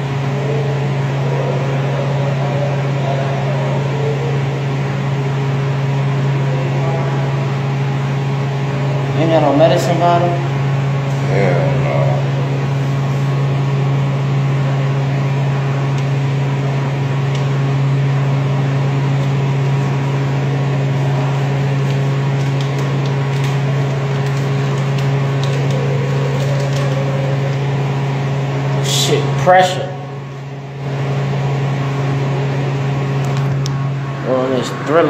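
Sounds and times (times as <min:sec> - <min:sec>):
electric fan motor hum: 0:00.0 - 0:35.0.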